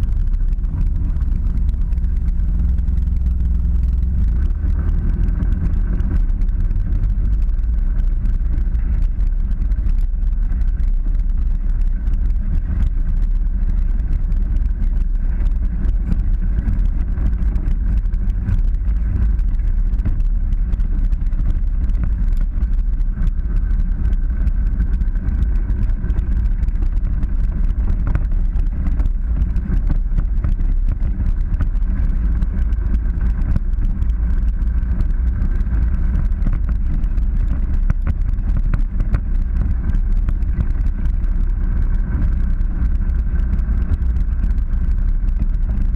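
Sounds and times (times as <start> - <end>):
off-road vehicle engine rumble: 0.0 - 45.9.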